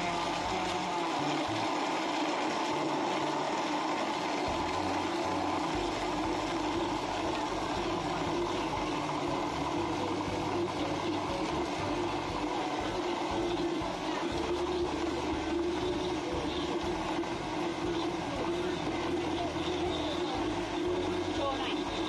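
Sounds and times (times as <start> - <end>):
blender churning ice: 0.0 - 22.0.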